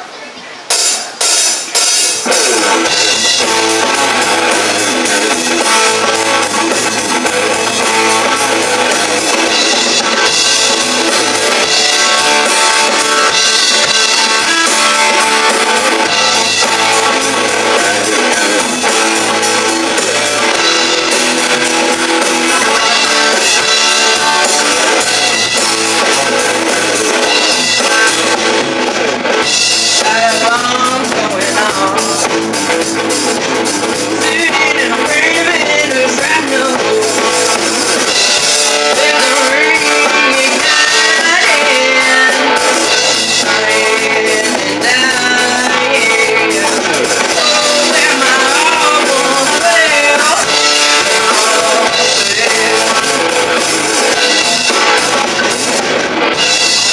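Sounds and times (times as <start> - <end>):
drum kit beat: 0.6 - 56.9
electric guitar: 0.8 - 56.9
electric bass: 2.0 - 56.9.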